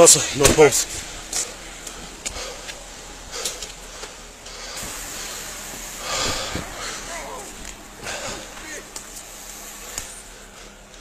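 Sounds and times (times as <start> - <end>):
loud rush of noise: 0.0 - 10.9
steady outdoor hiss: 0.0 - 11.0.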